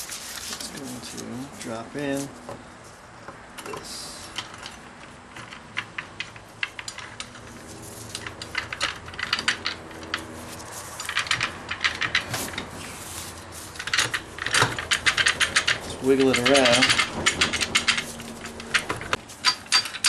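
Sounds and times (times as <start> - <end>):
metal parts clicking and rattling: 3.6 - 20.0.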